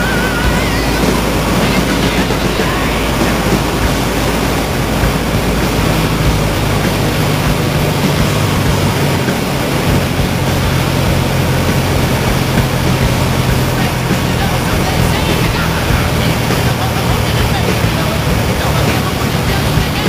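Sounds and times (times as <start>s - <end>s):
aircraft engine hum: 0.0s - 20.0s
rush of airflow: 0.0s - 20.0s.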